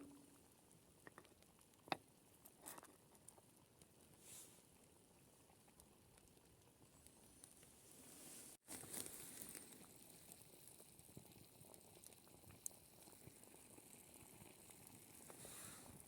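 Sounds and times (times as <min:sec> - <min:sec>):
pot bubbling and crackling: 0:00.0 - 0:16.0.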